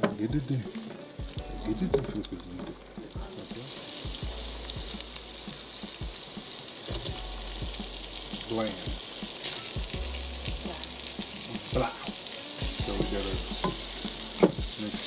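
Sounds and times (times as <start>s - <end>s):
vegetables sizzling in a skillet: 0.0s - 15.0s.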